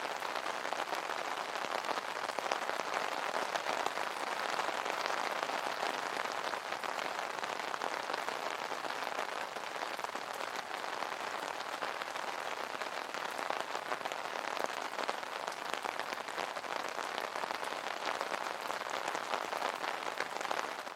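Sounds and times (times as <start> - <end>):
rain pattering on umbrella: 0.0 - 20.9.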